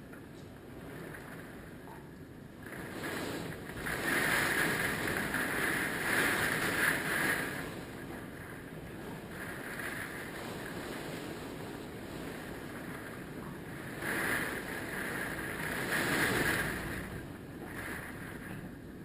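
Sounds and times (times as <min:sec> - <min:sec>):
hurricane wind gusting: 0:00.0 - 0:19.0.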